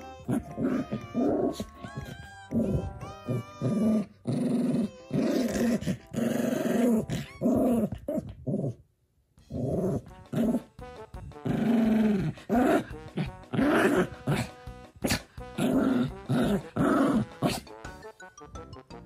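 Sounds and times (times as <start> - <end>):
small dog growling: 0.3 - 8.8, 9.5 - 10.7, 11.4 - 17.7.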